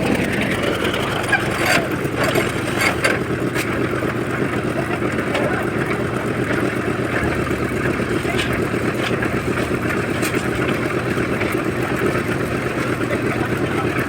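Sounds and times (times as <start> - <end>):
concrete mixer engine running: 0.0 - 14.0.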